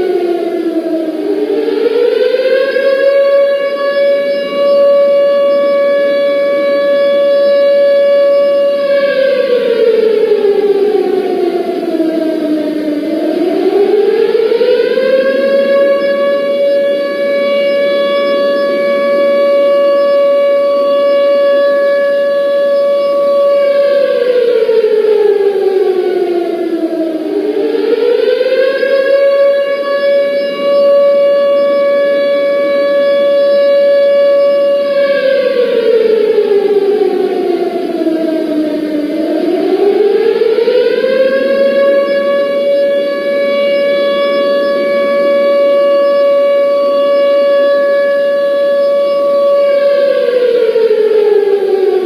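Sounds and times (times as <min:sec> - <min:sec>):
civil defence siren wailing: 0:00.0 - 0:52.0.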